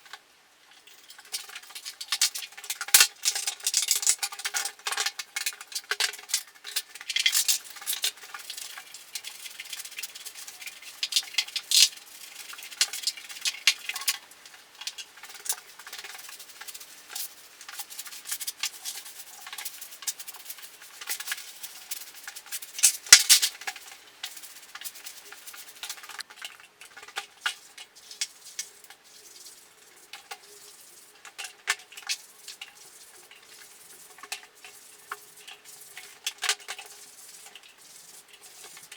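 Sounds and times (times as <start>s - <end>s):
light clicks and scratches: 0.0s - 38.9s.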